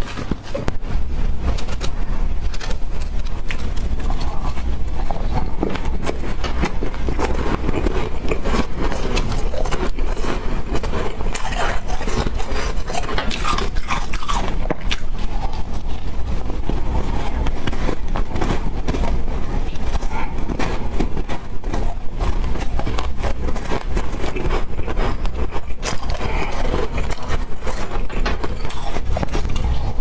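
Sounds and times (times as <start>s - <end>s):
chewing ice crunches: 1.5s - 30.0s.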